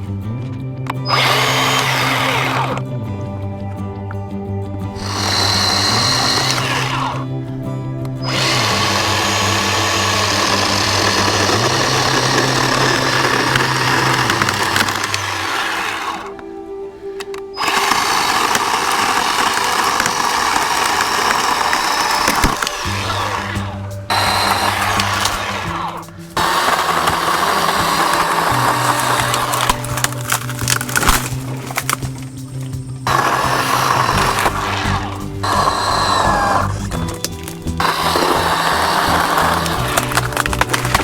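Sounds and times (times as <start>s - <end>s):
background music: 0.0s - 41.0s
chainsaw cutting wood: 0.8s - 2.9s, 4.9s - 16.5s, 17.6s - 41.0s.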